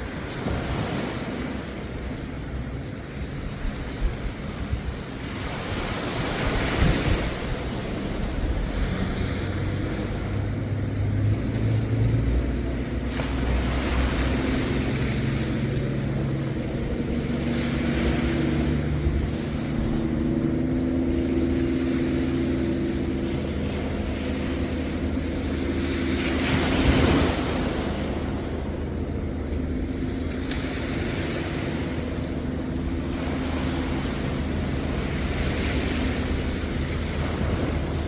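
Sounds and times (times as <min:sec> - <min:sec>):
engine droning: 0:00.0 - 0:38.0
surf washing: 0:00.0 - 0:38.0.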